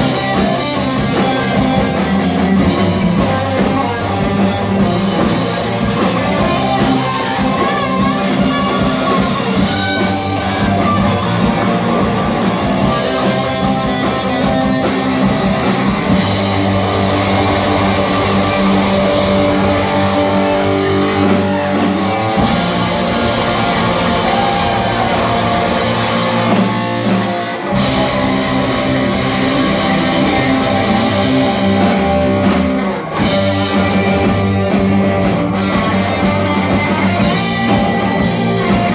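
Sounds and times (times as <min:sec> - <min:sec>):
drum kit: 0:00.0 - 0:38.9
electric guitar playing: 0:00.0 - 0:38.9.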